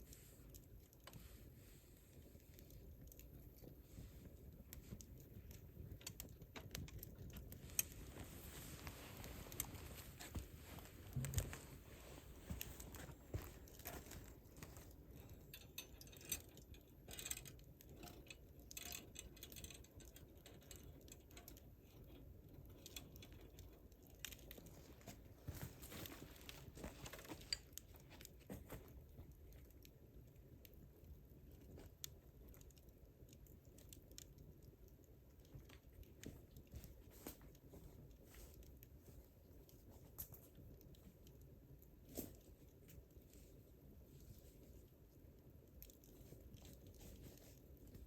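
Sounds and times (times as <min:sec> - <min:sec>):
campfire crackling: 0:00.1 - 0:48.0.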